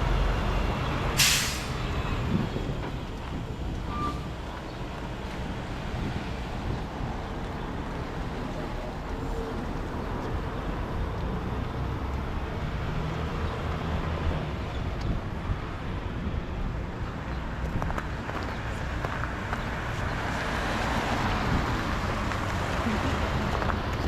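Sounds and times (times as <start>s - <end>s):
city street noise: 0.0s - 24.0s.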